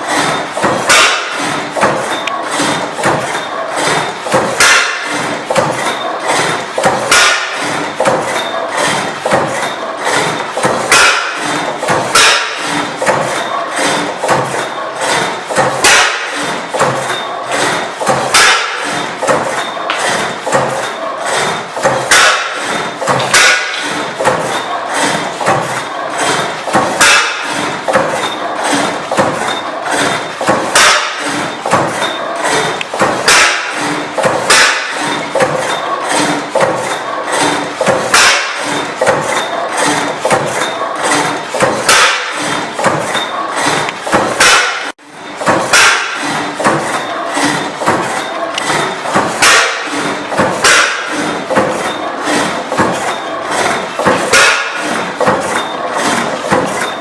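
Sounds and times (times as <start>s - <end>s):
stationary gas engine knocking: 0.0s - 57.0s.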